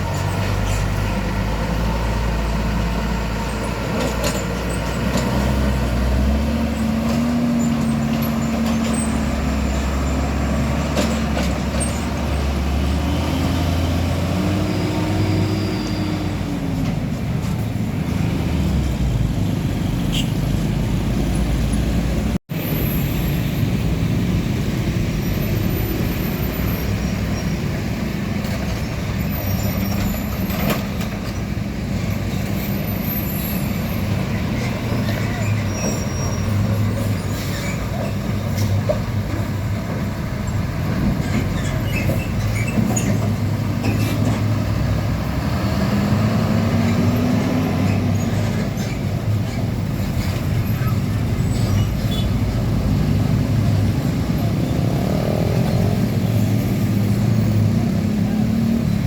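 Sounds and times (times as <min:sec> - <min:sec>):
diesel trucks driving past: 0:00.0 - 0:59.0
steady traffic noise: 0:00.0 - 0:59.0.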